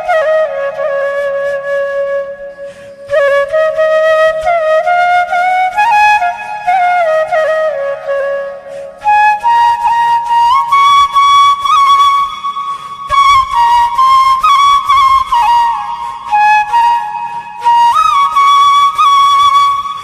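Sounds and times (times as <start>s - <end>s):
solo flute slow melody: 0.0s - 20.0s.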